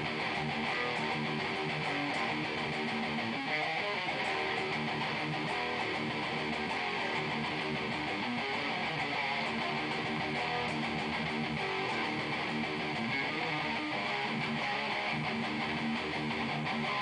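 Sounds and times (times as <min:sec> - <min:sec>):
distorted electric guitar riffing: 0:00.0 - 0:17.0.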